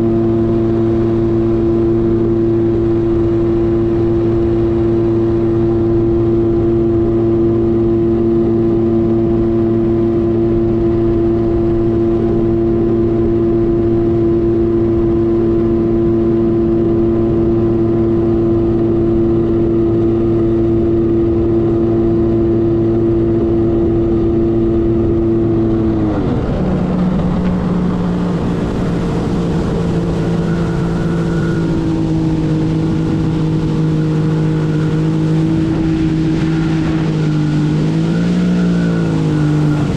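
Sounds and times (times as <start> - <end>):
watercraft engine running: 0.0 - 39.9.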